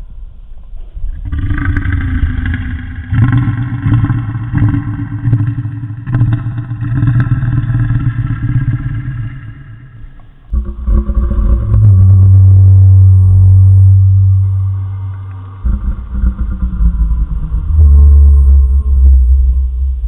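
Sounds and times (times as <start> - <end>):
deep rumbling creature growl: 0.0 - 20.0.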